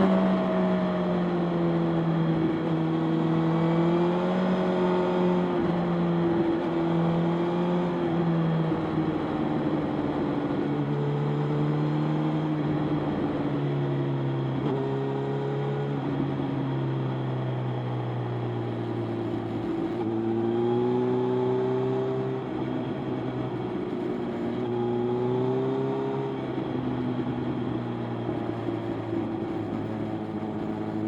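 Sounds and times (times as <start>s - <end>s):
wind and road noise: 0.0s - 31.0s.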